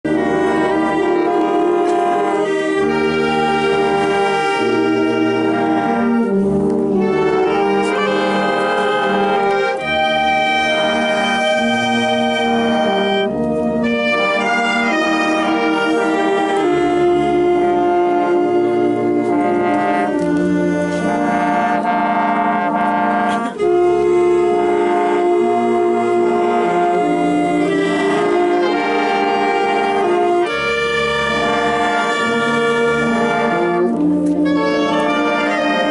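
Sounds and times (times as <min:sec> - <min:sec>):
wind band playing slow piece: 0:00.0 - 0:35.9.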